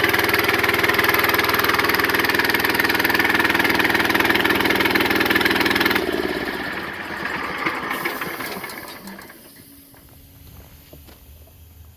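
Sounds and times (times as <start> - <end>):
motor running: 0.0 - 11.9.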